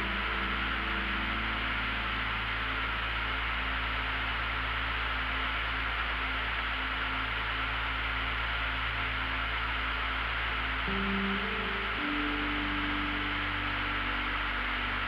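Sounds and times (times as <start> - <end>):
constant low hum: 0.0 - 15.0
faint music: 0.0 - 15.0
plane cabin engine hiss: 0.0 - 15.0.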